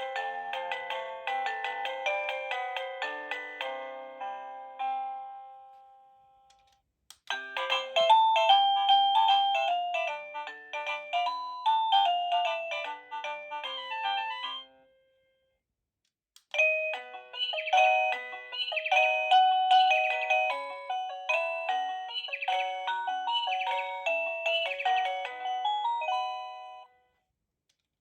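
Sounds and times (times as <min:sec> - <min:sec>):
doorbell chime melody: 0:00.0 - 0:06.3, 0:07.4 - 0:15.0, 0:16.6 - 0:27.2.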